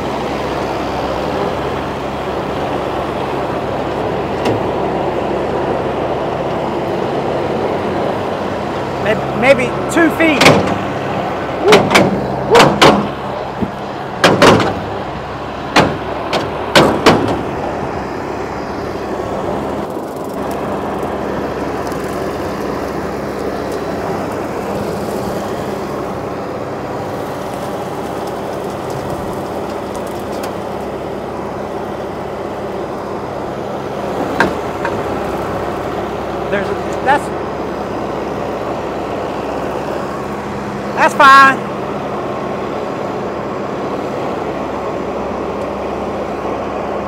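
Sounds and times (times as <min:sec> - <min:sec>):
tractor with rotary cutter droning: 0:00.0 - 0:47.0.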